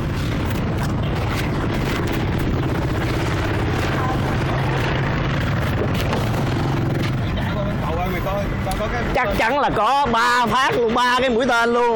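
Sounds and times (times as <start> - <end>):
traffic: 0.0 - 11.9.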